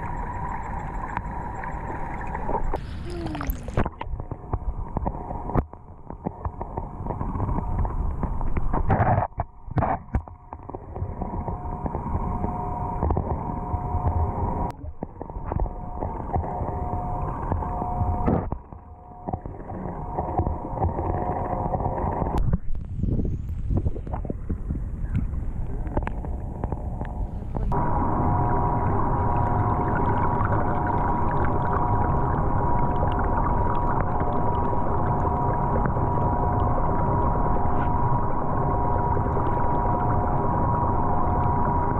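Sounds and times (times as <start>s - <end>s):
constant high hum: 0.0s - 41.9s
underwater low rumble: 0.0s - 41.9s.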